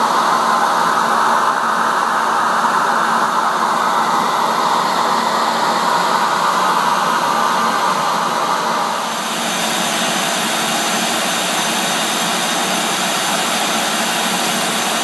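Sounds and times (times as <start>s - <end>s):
lathe motor whooshing whir: 0.0s - 15.0s.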